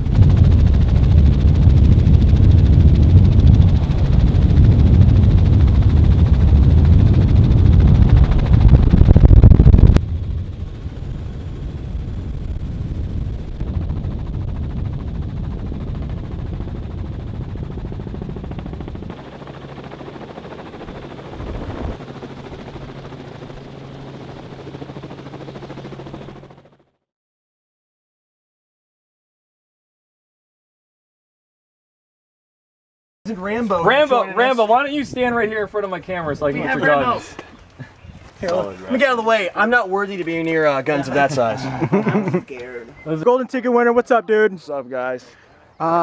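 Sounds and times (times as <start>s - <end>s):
helicopter rotor and engine: 0.0s - 27.0s, 33.4s - 46.0s.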